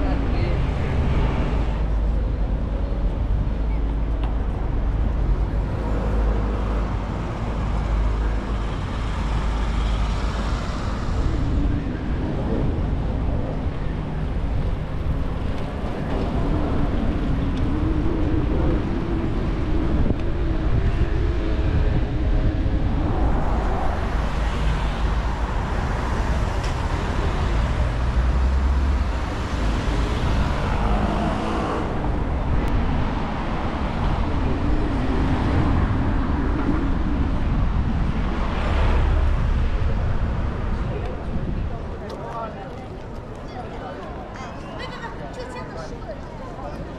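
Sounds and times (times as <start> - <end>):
passing cars: 0.0 - 46.9
wind rumbling on microphone: 0.0 - 46.9.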